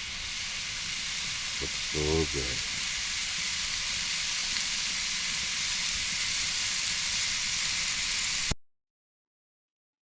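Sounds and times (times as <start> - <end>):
steaks sizzling in hot fat: 0.0 - 8.6.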